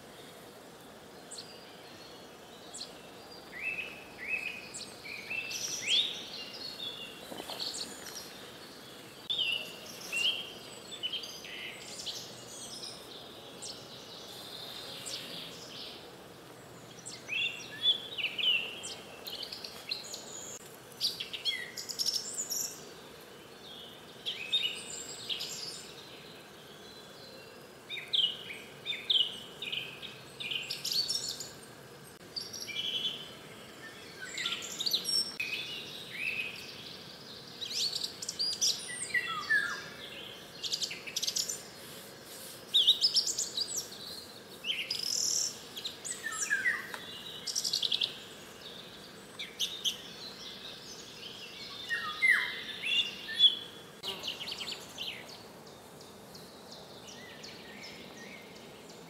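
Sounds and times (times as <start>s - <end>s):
faint background hiss: 0.0s - 59.0s
songbirds singing: 0.0s - 59.0s.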